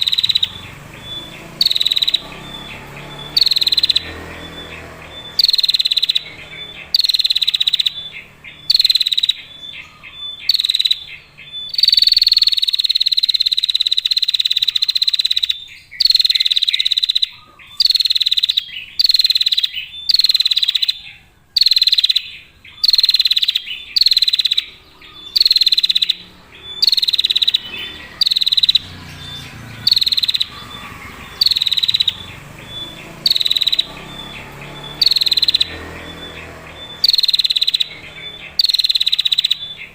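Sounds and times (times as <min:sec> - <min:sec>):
bird ticking trill: 0:00.0 - 0:39.9.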